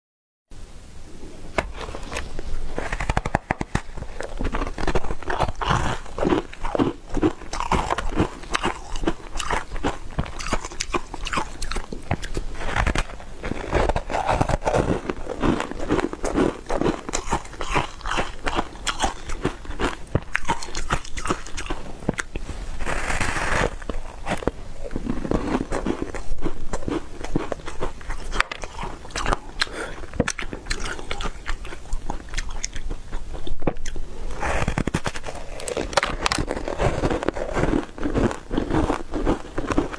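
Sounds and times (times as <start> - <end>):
crunchy ice chewing: 1.6 - 39.9.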